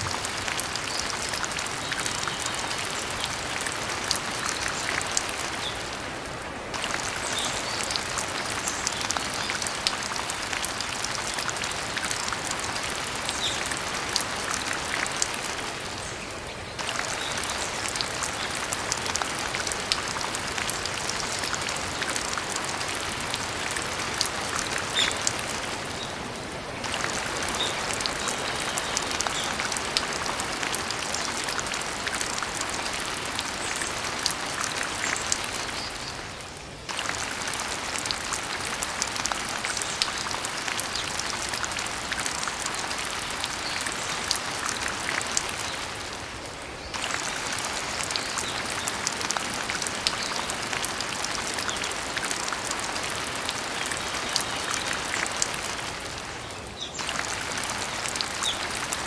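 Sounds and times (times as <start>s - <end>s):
falling water like rain: 0.0s - 59.0s.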